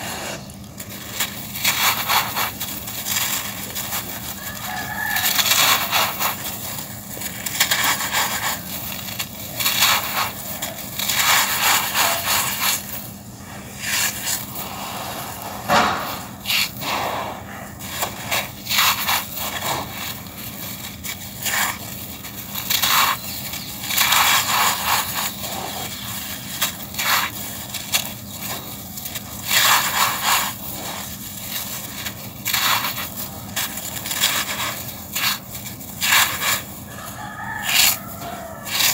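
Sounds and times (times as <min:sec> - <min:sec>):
sand chunks crunching by hand: 0:00.0 - 0:38.9
sand grains trickling: 0:00.0 - 0:38.9.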